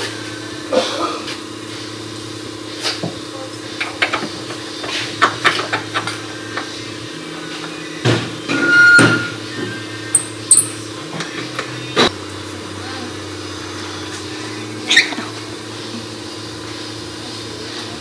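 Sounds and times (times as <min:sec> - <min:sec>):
low shop hum: 0:00.0 - 0:18.0.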